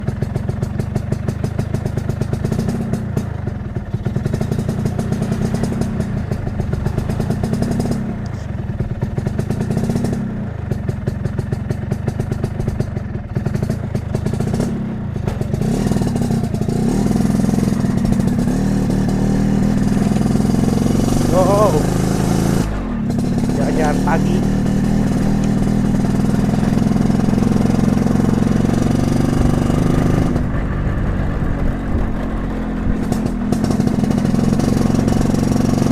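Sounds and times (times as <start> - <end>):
scooter engine revving: 0.0 - 35.9.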